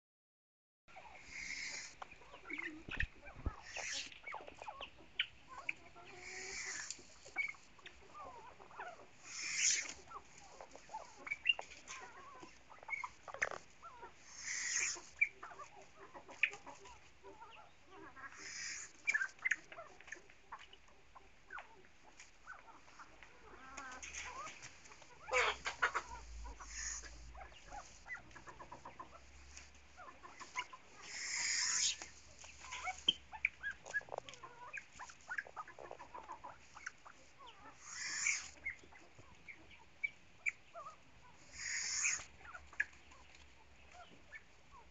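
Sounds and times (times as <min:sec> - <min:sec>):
fowl clucking and chirping: 0:00.9 - 0:44.9.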